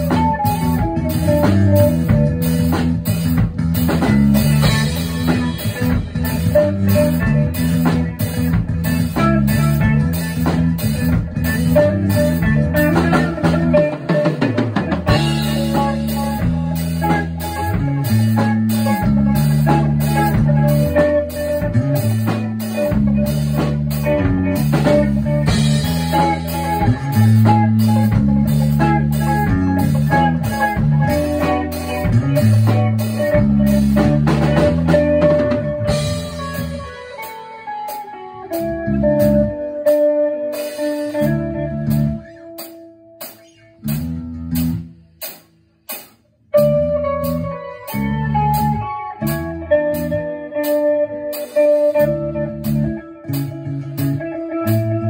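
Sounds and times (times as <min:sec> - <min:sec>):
band playing funk groove: 0:00.0 - 0:55.0
sparse bass and guitar notes: 0:00.0 - 0:55.0.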